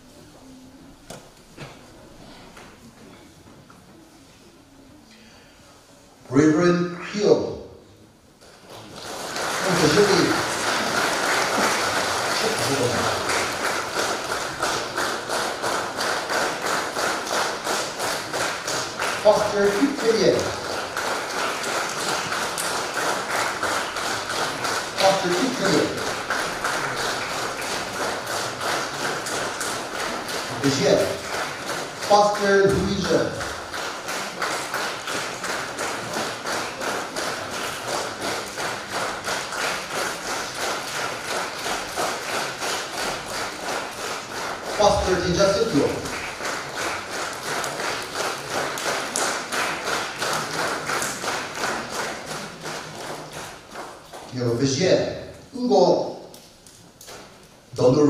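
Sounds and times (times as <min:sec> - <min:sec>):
congregation clapping in rhythm: 0:08.4 - 0:58.0.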